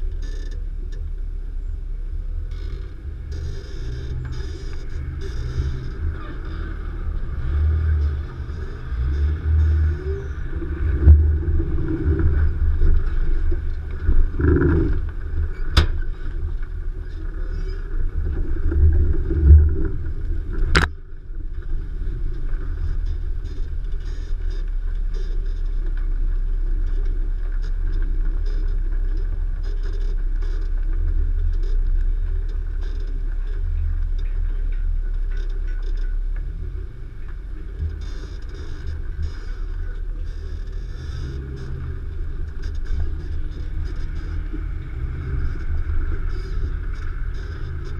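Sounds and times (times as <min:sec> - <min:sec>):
vehicle engine rumbling off-road: 0:00.0 - 0:47.9.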